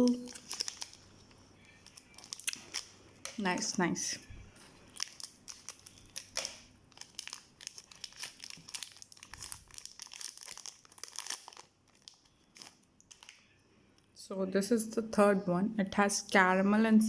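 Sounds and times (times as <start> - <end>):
plastic wrapper crinkling: 0.0 - 14.1.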